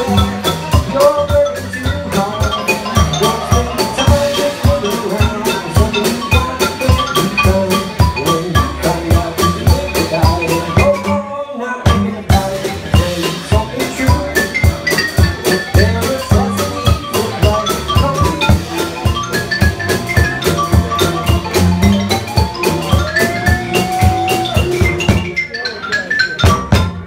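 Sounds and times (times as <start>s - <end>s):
bright melody: 0.0s - 11.3s, 11.9s - 27.0s
drum kit: 0.0s - 25.6s, 26.3s - 27.0s
upright bass: 0.0s - 27.0s.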